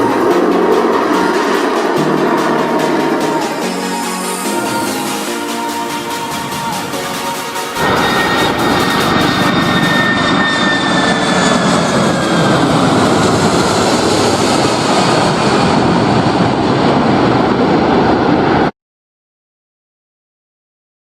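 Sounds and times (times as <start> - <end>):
aircraft engine passing: 0.0 - 18.7.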